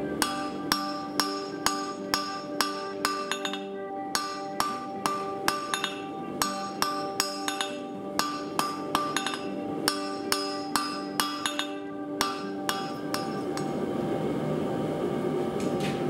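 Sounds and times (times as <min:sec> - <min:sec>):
hammer ringing on hot steel: 0:00.0 - 0:13.8.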